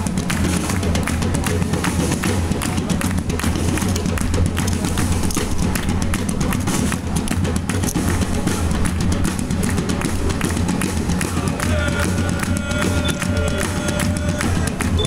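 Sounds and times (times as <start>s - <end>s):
hand drums playing fast rhythm: 0.0s - 15.0s.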